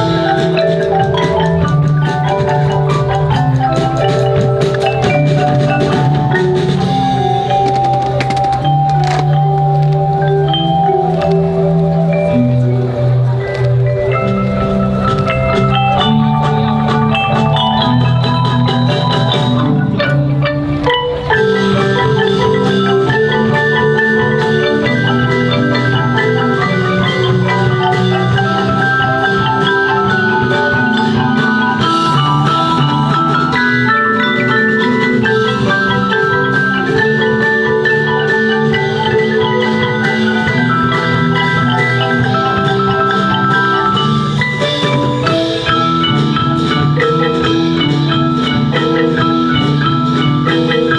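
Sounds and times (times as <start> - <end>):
marimba ensemble music: 0.0 - 50.9.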